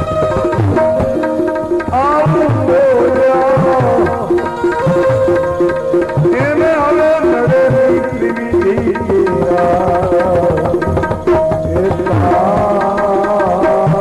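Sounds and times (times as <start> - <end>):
sustained melody instrument: 0.0 - 14.0
tabla playing: 0.0 - 14.0.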